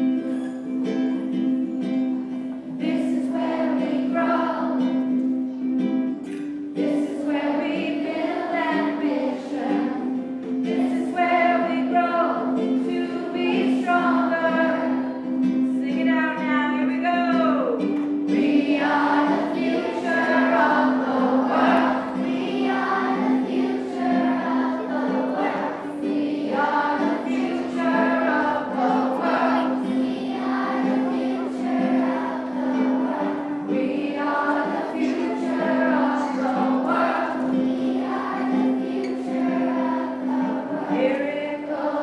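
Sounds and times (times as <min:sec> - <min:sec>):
children singing in unison: 0:00.0 - 0:15.5, 0:18.2 - 0:42.0
strummed ukulele: 0:00.0 - 0:42.0.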